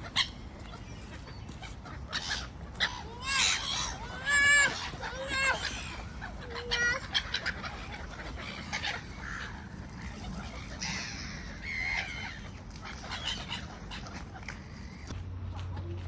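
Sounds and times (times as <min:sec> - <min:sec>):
birds chirping and calling: 0:00.0 - 0:15.2.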